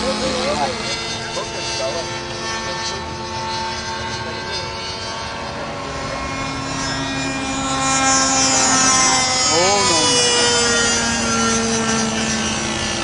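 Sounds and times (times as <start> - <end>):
model plane engine droning: 0.0 - 13.0.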